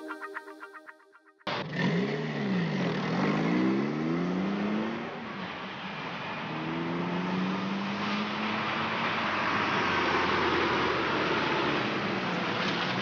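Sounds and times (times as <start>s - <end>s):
car engines revving: 1.5s - 13.0s
road noise: 1.5s - 13.0s.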